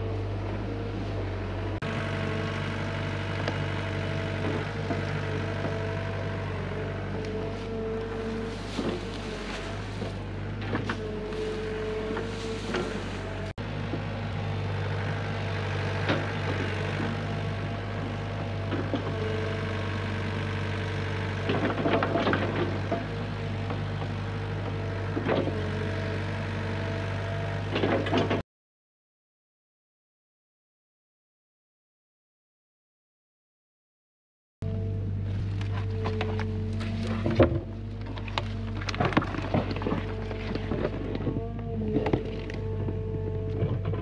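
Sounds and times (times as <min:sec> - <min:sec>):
excavator running: 0:00.0 - 0:28.4, 0:34.6 - 0:44.0.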